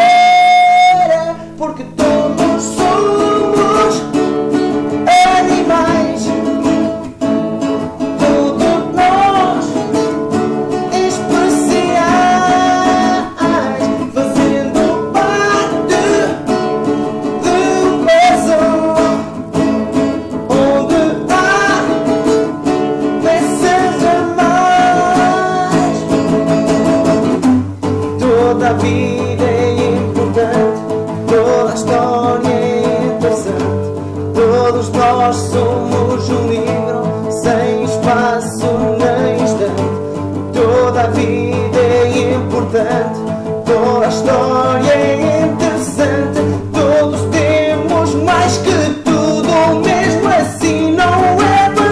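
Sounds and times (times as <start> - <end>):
acoustic guitars strumming: 0.0 - 51.9
person singing: 0.0 - 51.9.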